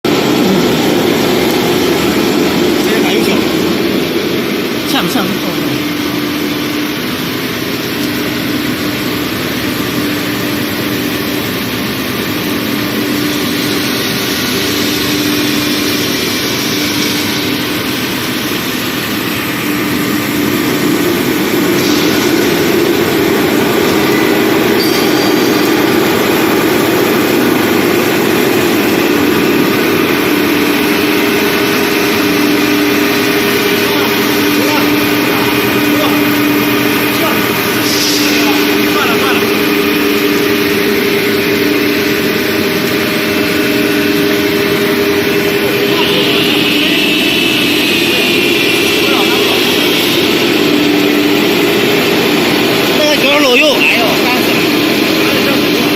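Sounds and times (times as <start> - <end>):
drilling machine humming: 0.0 - 55.9
noisy wash: 0.0 - 55.9.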